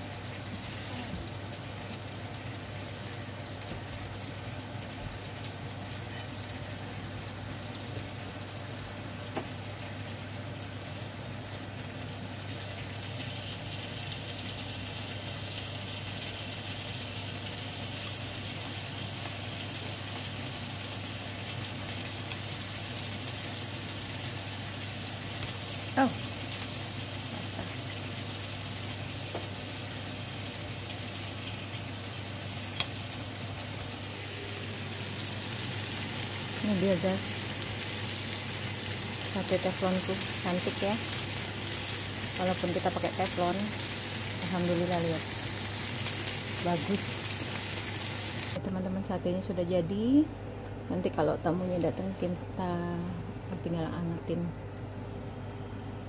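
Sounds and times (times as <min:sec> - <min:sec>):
skewers sizzling in a frying pan: 0:00.0 - 0:48.6
steady low hum: 0:00.0 - 0:56.0.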